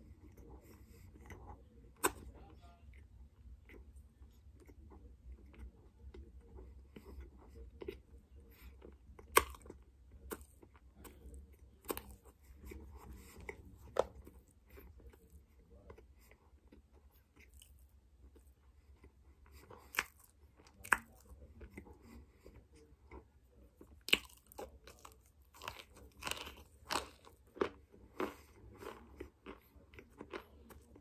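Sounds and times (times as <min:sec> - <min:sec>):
soft crunching and chewing: 0:00.0 - 0:31.0.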